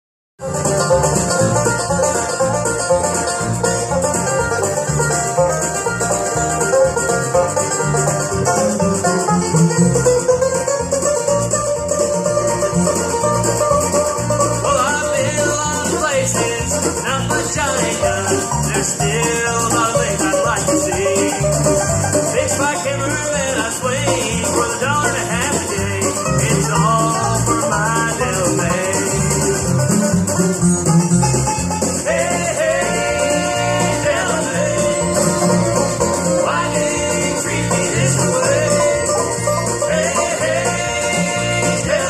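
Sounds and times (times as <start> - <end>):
bluegrass band playing: 0.4 - 42.0
fiddle sliding lines: 0.4 - 42.0.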